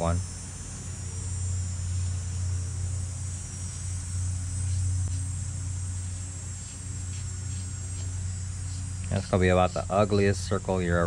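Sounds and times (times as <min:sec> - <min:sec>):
insect chirring: 0:00.0 - 0:11.0
low electrical hum: 0:00.0 - 0:11.0.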